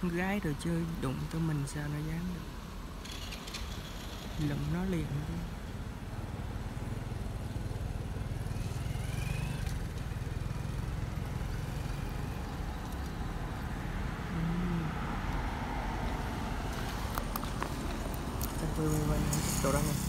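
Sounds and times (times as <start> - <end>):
road traffic rumble: 0.0 - 20.0
vehicle passing: 3.0 - 20.0.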